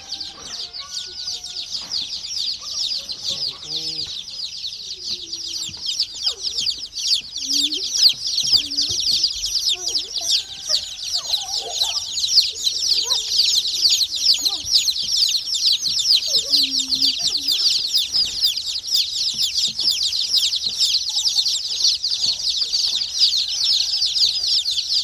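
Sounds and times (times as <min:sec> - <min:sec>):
baby chicks peeping: 0:00.0 - 0:25.0
lower clucking calls: 0:02.6 - 0:24.0.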